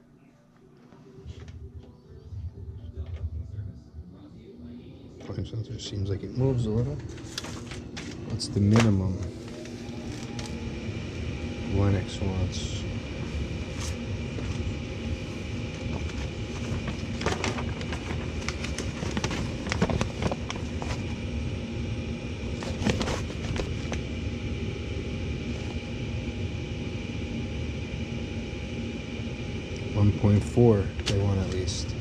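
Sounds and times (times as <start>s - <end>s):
gas furnace motor hum: 0.0s - 32.0s.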